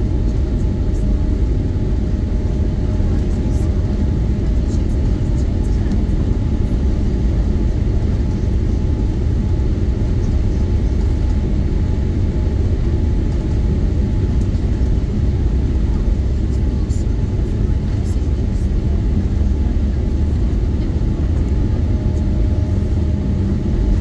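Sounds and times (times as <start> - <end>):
jet engines rumbling at takeoff: 0.0 - 24.0.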